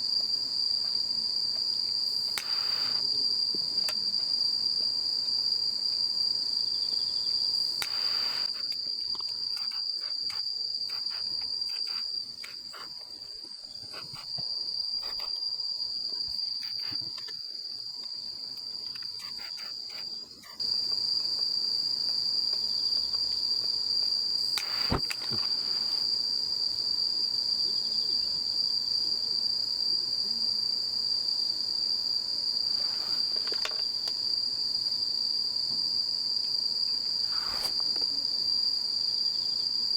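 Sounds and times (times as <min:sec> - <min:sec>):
crickets chirping chorus: 0:00.0 - 0:39.9.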